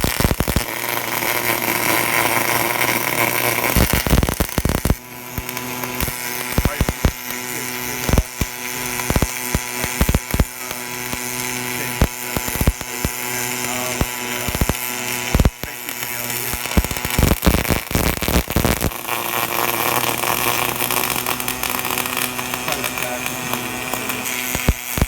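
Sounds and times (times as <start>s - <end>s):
machine hum: 0.0s - 25.0s
sharp welding pops: 0.0s - 25.0s
welding arc crackling hiss: 0.0s - 25.0s.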